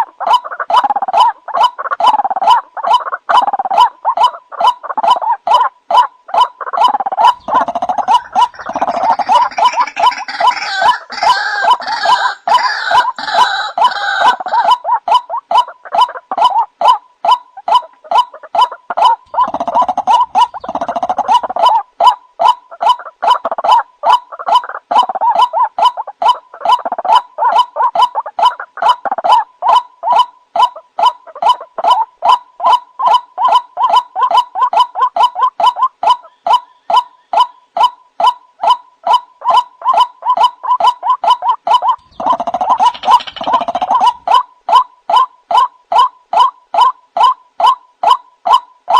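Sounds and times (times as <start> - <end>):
waterhen harsh croaking calls: 0.0 - 48.9.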